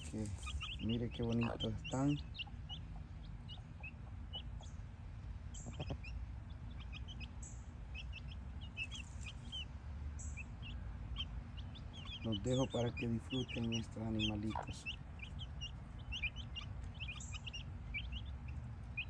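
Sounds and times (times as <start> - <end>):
chicks peeping: 0.0 - 19.0
steady low rumble: 0.0 - 19.0.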